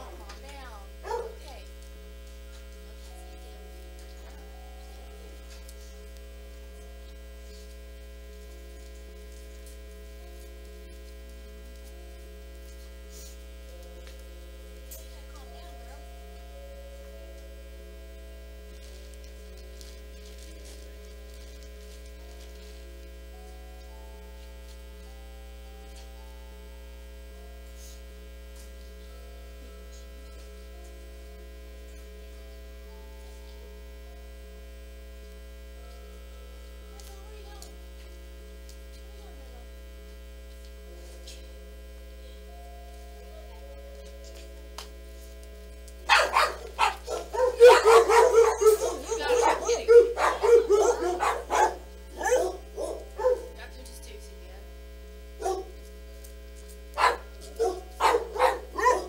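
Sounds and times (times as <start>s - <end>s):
low electrical mains hum: 0.0s - 59.0s.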